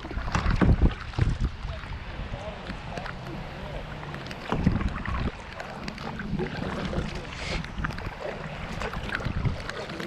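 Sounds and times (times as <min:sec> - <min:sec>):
water and hull noise: 0:00.0 - 0:10.0
wind buffeting microphone: 0:00.0 - 0:10.0.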